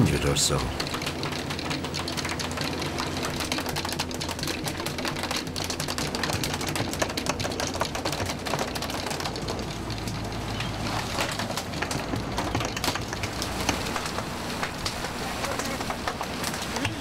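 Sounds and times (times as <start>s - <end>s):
diesel engine humming: 0.0s - 17.0s
fish tails drumming on deck: 0.0s - 17.0s.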